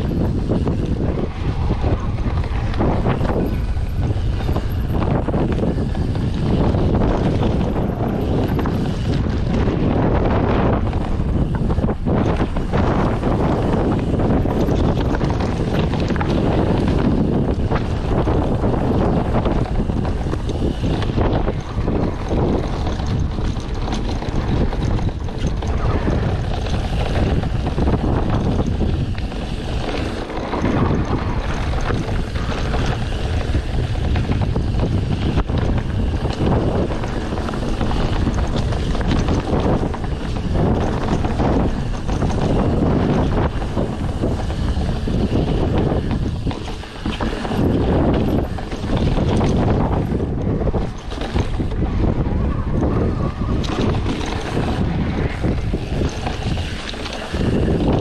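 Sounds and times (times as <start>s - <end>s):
bike rolling noise: 0.0s - 58.0s
wind buffeting microphone: 0.0s - 58.0s.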